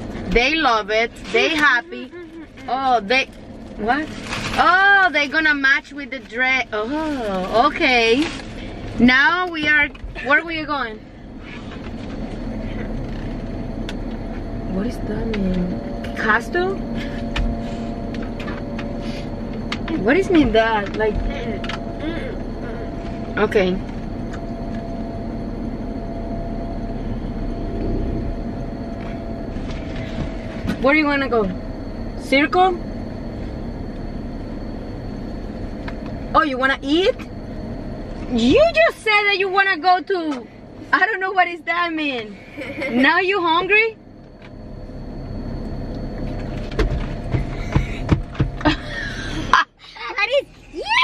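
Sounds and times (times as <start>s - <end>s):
faint constant tone: 0.0s - 51.0s
vehicle cabin rumble: 0.0s - 51.0s.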